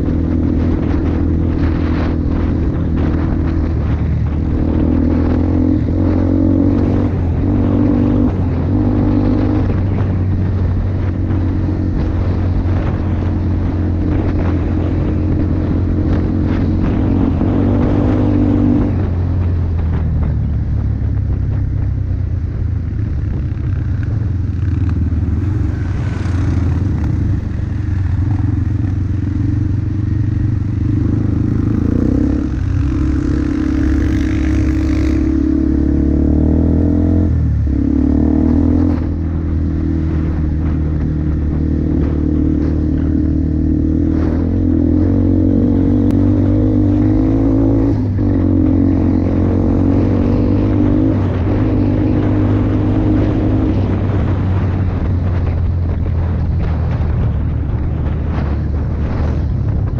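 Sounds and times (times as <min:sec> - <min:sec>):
atv engine running under throttle: 0:00.0 - 0:59.9.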